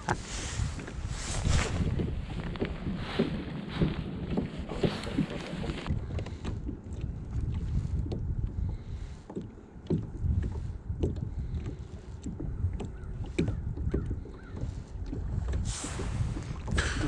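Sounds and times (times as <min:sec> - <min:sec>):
water lapping against kayak hull: 0:00.0 - 0:17.0
wind rumbling on microphone: 0:00.0 - 0:17.0.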